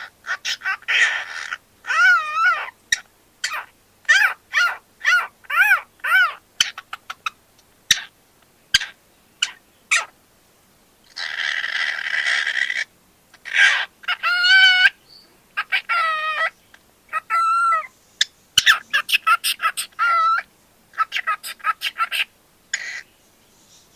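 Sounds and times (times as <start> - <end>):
cockatiel chirping and screeching: 0.0 - 8.1, 8.7 - 10.1, 11.1 - 15.0, 15.6 - 16.5, 17.1 - 23.1.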